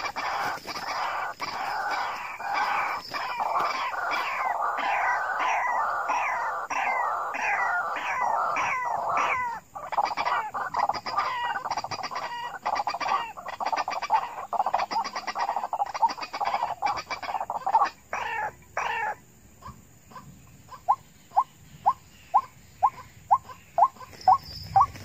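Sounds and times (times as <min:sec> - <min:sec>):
waterhens calling: 0:00.0 - 0:25.0.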